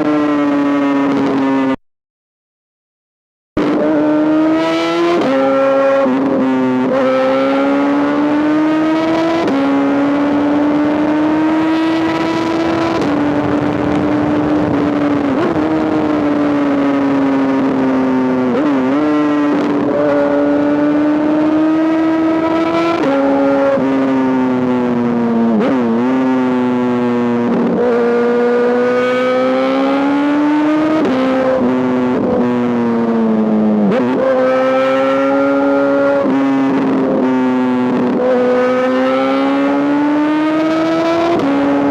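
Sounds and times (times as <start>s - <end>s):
motorcycle engine revving high: 0.0s - 1.8s, 3.6s - 41.9s.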